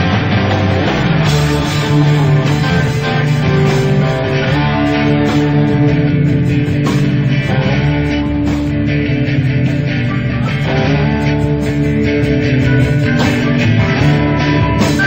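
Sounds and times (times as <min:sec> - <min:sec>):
bass guitar: 0:00.0 - 0:15.0
rock guitar: 0:00.0 - 0:15.0.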